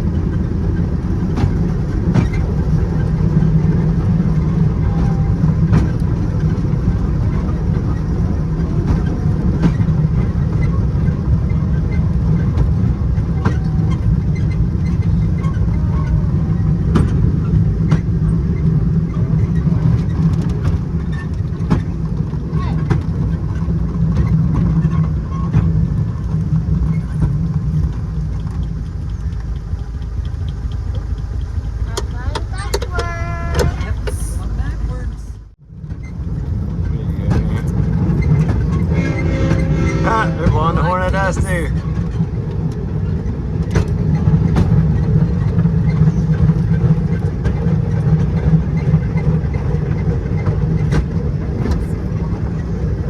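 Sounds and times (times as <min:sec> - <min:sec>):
train rumble from on board: 0:00.0 - 0:53.0
wheels clacking on track: 0:00.0 - 0:53.0.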